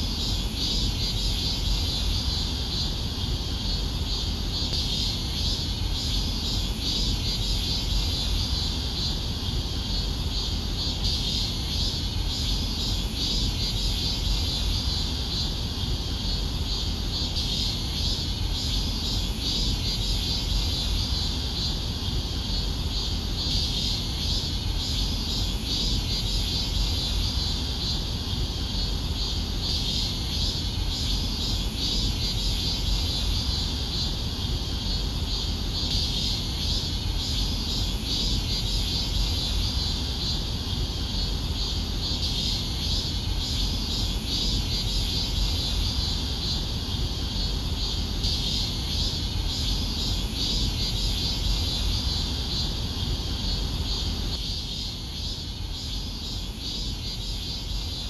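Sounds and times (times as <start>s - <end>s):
night insects chirring: 0.0s - 58.0s.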